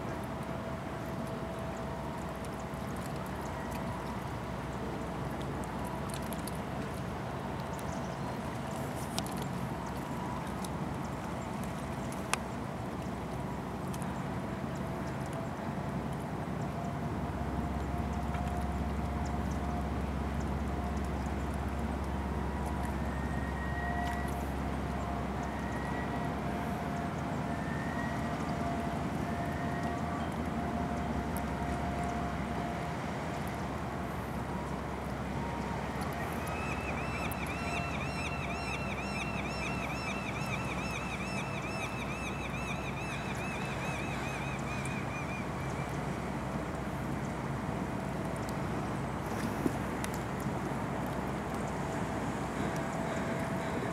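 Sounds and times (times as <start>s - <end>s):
churning propeller wash: 0.0s - 53.9s
ferry engines rumbling: 6.6s - 43.2s, 44.0s - 53.9s.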